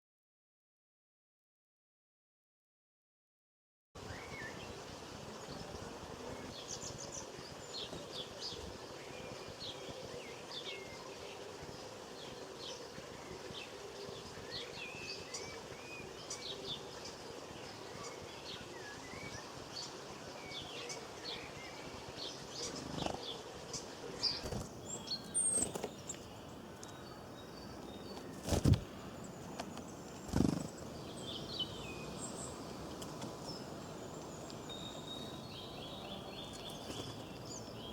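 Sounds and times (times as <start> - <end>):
outdoor background hiss: 4.0 - 37.9
small birds chirping: 4.0 - 37.9.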